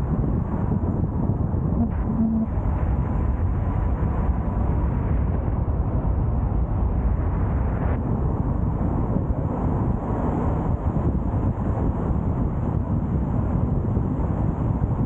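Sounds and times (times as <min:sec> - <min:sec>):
car tyre and wind noise: 0:00.0 - 0:15.0.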